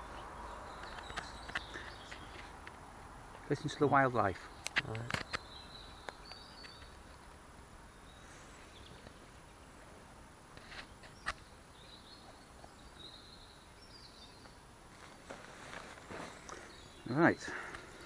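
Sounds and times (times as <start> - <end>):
background hiss: 0.0 - 18.0
faint birds twittering: 0.0 - 18.0.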